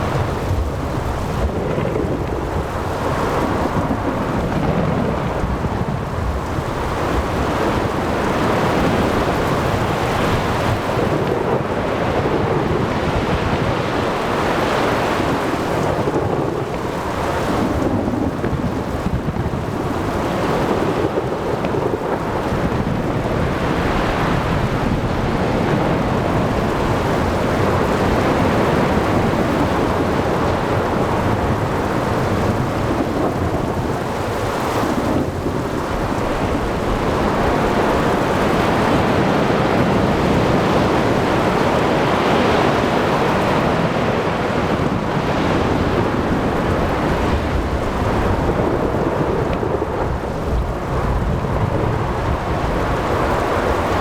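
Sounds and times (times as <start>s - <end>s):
heavy rain: 0.0s - 54.0s
waves: 0.0s - 54.0s
wind: 0.0s - 54.0s.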